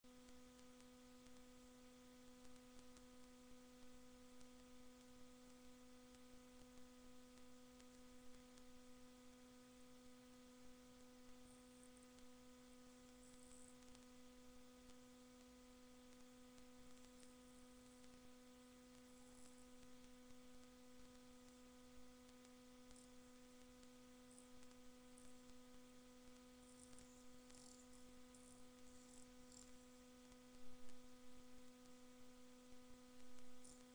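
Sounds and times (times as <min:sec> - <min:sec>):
faint electrical hum: 0:00.0 - 0:33.9.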